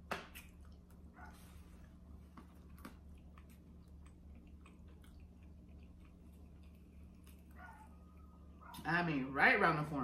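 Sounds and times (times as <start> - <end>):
chewing fried food: 0.2 - 9.0.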